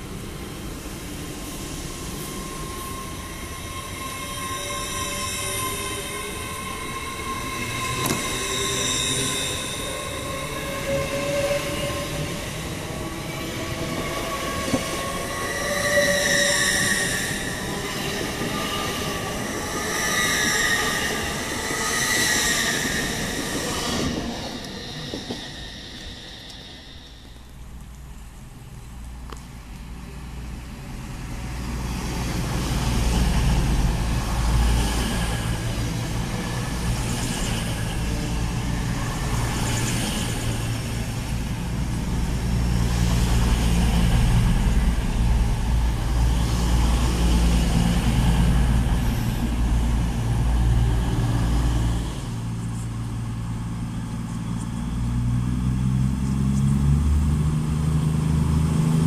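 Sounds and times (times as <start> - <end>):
diesel train engines: 0.0 - 59.0
train coaches rolling past: 0.0 - 59.0.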